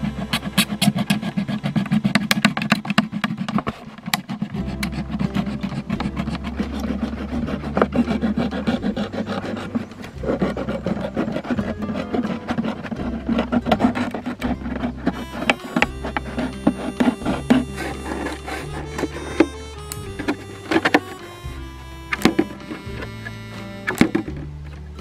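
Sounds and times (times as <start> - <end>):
background music with bass: 0.0 - 25.0
knife sawing plastic bottle: 0.0 - 25.0.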